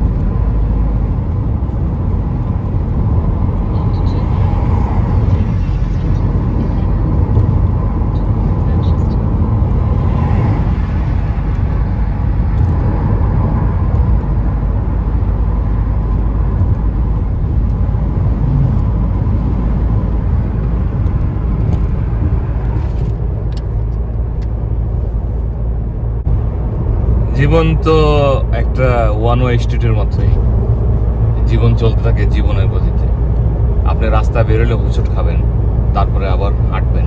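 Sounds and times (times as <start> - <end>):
car road and engine rumble: 0.0 - 37.0.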